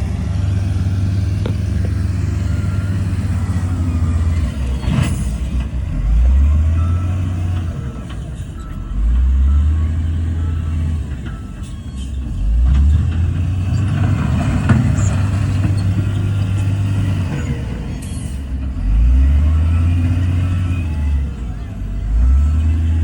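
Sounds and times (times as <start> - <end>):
diesel machinery engine rumble: 0.0 - 23.0.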